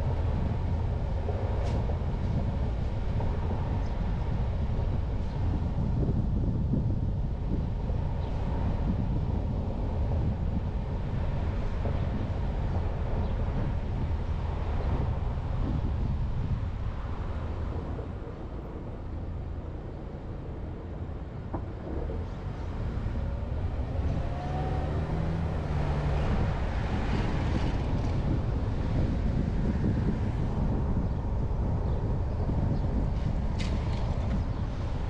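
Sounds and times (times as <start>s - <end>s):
car engine and tyres rumbling: 0.0s - 35.0s
wind on microphone: 0.0s - 35.0s.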